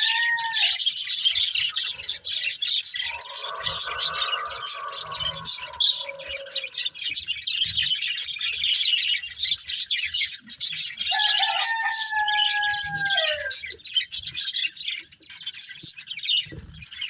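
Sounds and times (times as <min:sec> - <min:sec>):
budgerigars chirping and chattering: 0:00.0 - 0:17.0.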